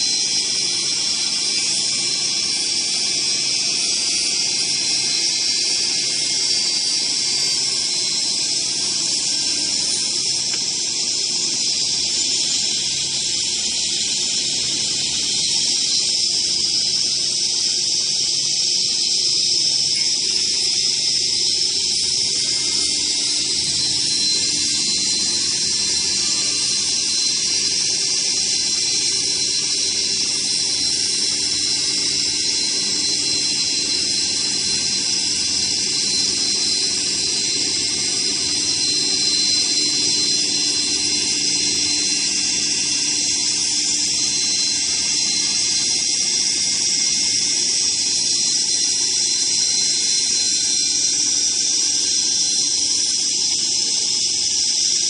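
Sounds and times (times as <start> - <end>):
saw machine high-pitched whine: 0.0 - 55.0.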